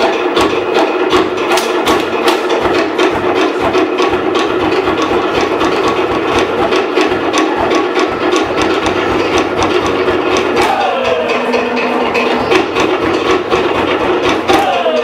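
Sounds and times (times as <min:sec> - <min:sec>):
wooden slit drums beaten: 0:00.0 - 0:15.0.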